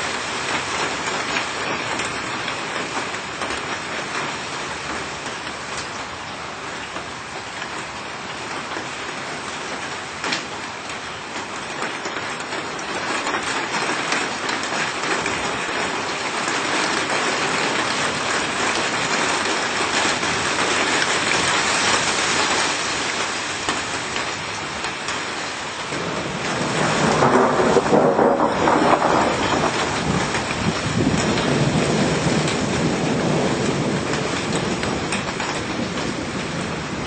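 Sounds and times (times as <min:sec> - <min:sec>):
heavy rain hissing: 0:00.0 - 0:37.0.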